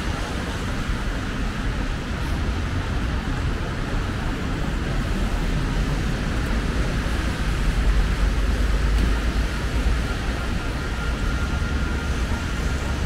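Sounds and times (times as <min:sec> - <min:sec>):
low rumble of engines: 0:00.0 - 0:13.0
tyres hissing on wet road: 0:00.0 - 0:13.0.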